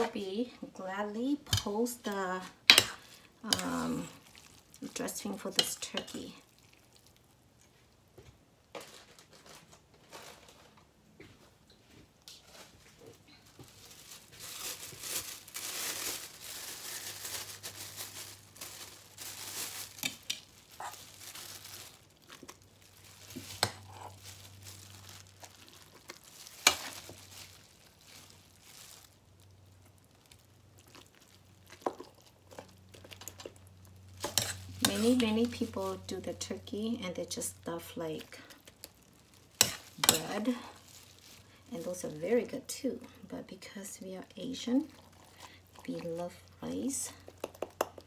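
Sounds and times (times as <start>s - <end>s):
plastic bag crinkling: 1.2s - 7.7s, 8.6s - 11.0s, 12.2s - 43.2s, 44.4s - 48.0s.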